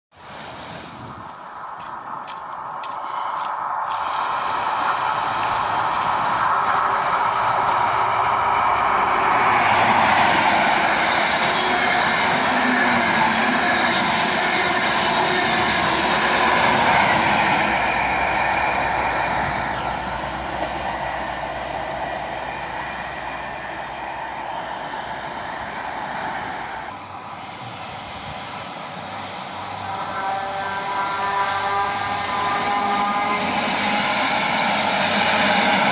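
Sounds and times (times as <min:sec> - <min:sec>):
diesel train passing at speed: 0:00.1 - 0:35.9.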